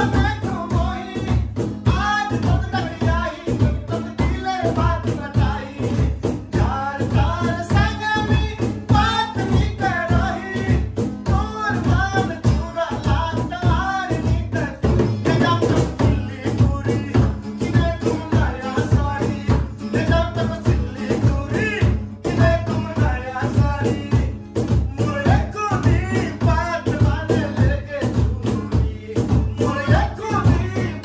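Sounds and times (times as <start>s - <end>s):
acoustic guitar: 0.0s - 31.0s
cajon beat: 0.0s - 31.0s
hand-played barrel drum: 0.0s - 31.0s
man singing: 0.0s - 31.0s.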